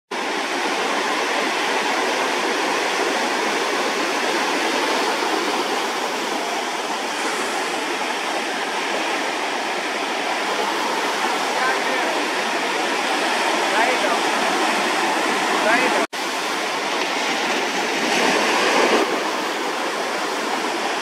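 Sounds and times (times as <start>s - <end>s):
ocean surf rushing: 0.1s - 21.0s.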